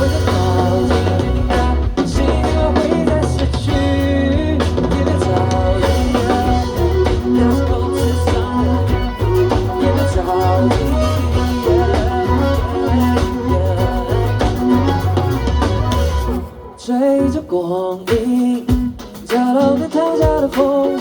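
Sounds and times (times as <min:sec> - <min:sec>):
band playing pop ballad: 0:00.0 - 0:21.0.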